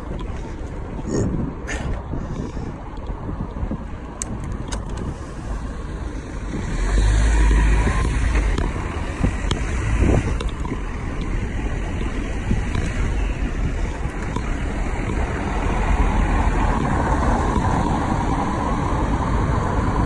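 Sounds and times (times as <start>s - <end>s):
road and traffic noise: 0.0s - 20.0s
wind rumbling on microphone: 0.0s - 20.0s.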